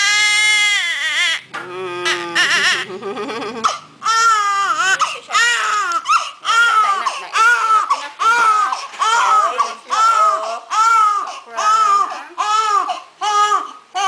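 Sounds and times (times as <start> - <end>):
baby crying: 0.0 - 14.0.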